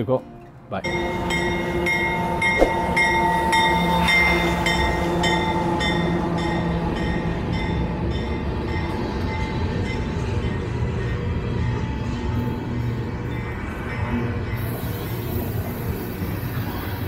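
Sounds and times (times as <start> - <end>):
diesel train running: 0.0 - 17.0.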